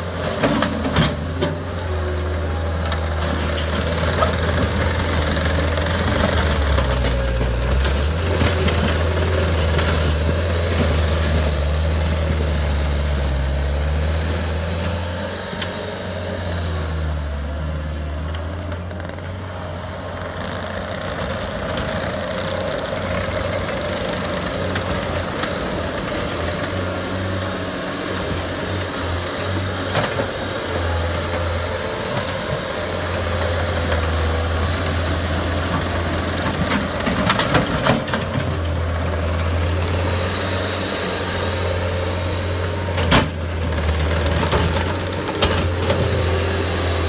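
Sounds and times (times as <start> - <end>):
loader diesel engine under load: 0.0 - 47.0.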